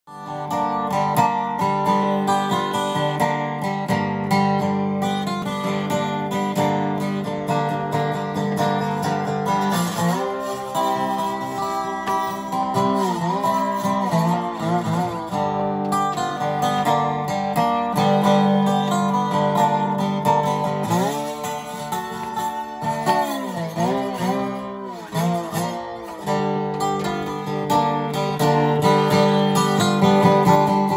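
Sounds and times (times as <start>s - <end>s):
slide resonator guitar playing: 0.1s - 30.9s.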